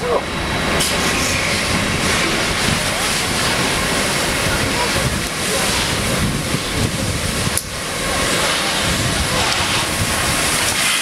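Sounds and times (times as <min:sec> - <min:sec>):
burning car rushing hiss: 0:00.0 - 0:11.0.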